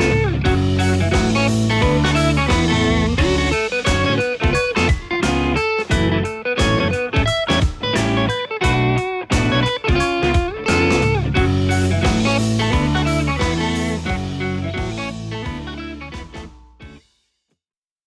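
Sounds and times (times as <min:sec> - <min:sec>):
blues electric guitar music: 0:00.0 - 0:17.0.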